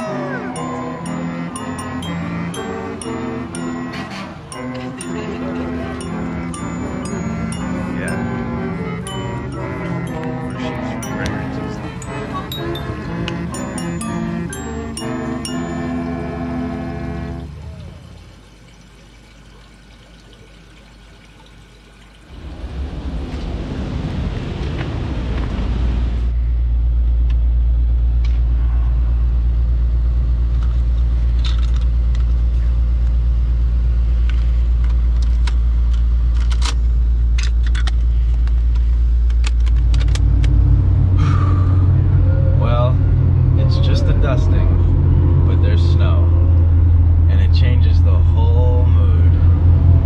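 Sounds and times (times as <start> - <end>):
car engine starting and running: 0.0 - 18.8, 22.3 - 50.0.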